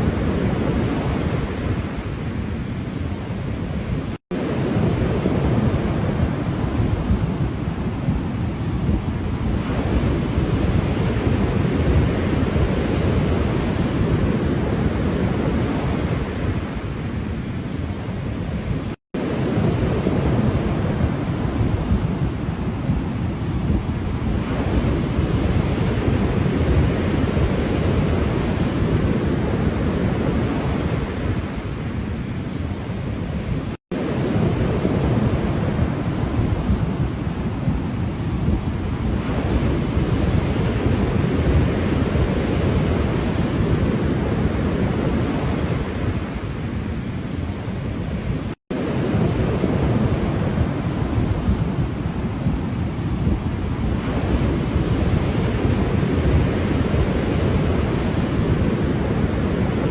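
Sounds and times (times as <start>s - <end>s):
ocean surf washing: 0.0s - 59.9s
wind rumbling on microphone: 0.0s - 59.9s.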